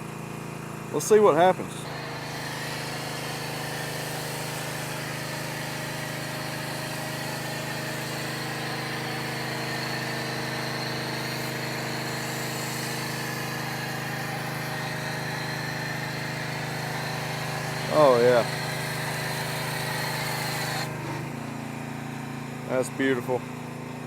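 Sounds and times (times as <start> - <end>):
pressure washer humming: 0.0 - 24.0
foam spray hissing: 1.6 - 21.3.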